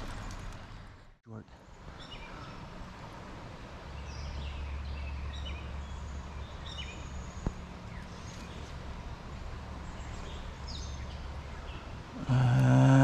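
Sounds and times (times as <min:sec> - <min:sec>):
low outdoor rumble: 0:00.0 - 0:13.0
small birds chirping: 0:01.6 - 0:02.8, 0:03.6 - 0:13.0.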